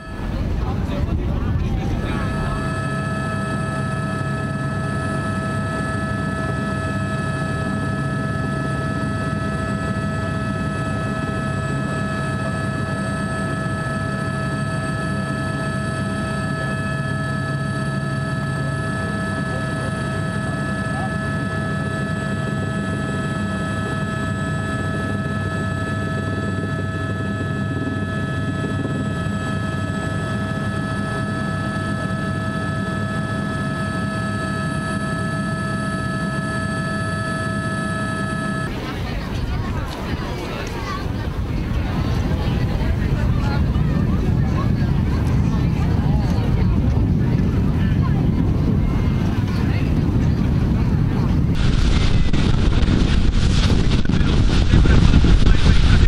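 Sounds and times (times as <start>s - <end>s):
helicopter droning in flight: 0.0s - 56.0s.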